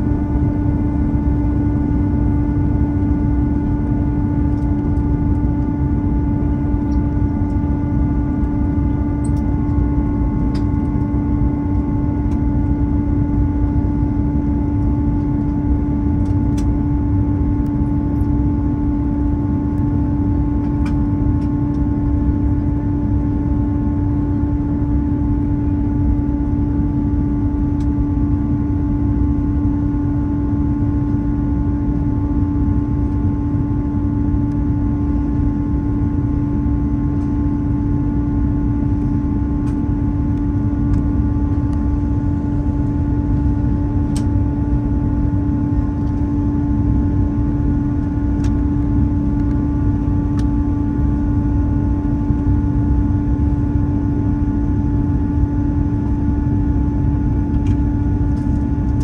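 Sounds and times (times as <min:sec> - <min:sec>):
airliner engine and airflow rumble: 0:00.0 - 0:59.0
constant low hum: 0:00.0 - 0:59.0.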